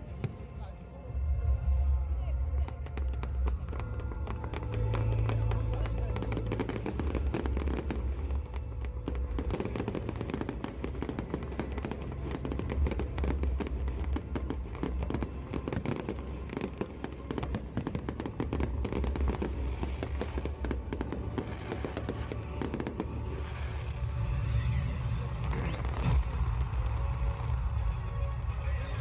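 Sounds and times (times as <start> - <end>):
fireworks bangs and crackles: 2.4 - 24.2, 25.2 - 29.0.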